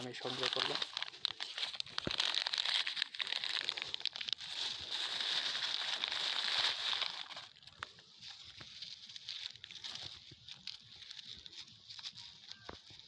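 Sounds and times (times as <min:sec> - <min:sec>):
plastic crinkling and rustling: 0:00.0 - 0:13.0.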